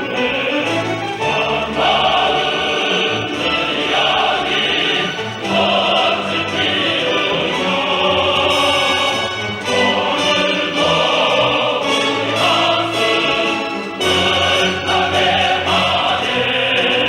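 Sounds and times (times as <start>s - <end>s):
choir singing: 0.0s - 17.0s
orchestra playing: 0.0s - 17.0s.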